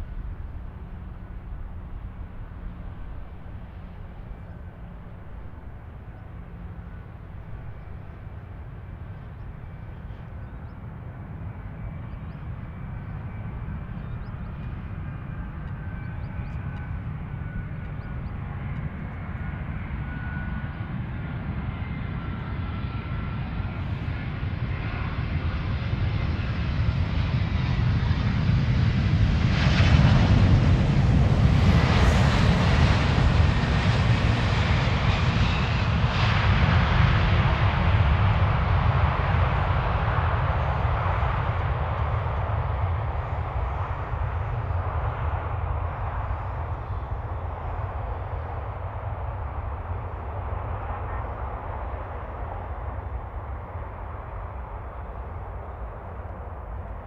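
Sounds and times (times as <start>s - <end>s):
jet engines rumbling and whining: 0.0s - 57.0s.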